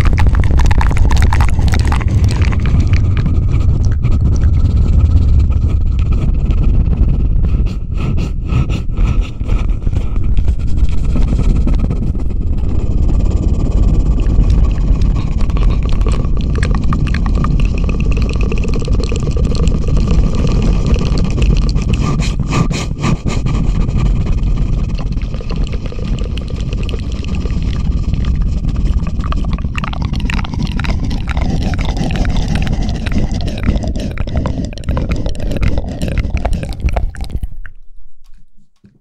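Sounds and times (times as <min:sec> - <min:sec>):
fast crackling clicks: 0:00.0 - 0:06.1, 0:10.7 - 0:22.4, 0:23.8 - 0:37.8
loud scraping rumble: 0:00.0 - 0:22.0, 0:23.6 - 0:37.8.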